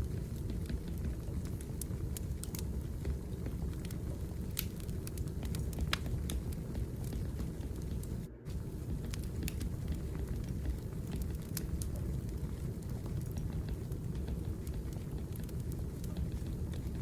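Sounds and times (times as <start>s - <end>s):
firewood crackling and popping: 0.0s - 17.0s
low fire rumble: 0.0s - 17.0s.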